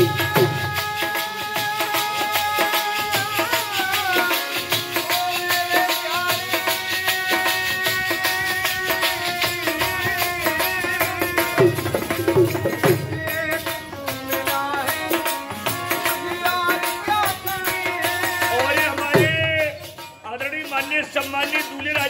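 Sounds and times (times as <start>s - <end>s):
hand drum beating: 0.0s - 20.2s
harmonium chords: 0.0s - 22.0s.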